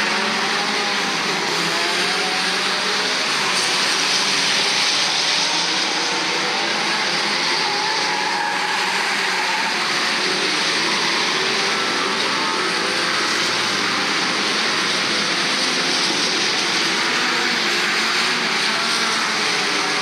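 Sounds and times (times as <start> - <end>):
race car engines at speed: 0.0 - 20.0.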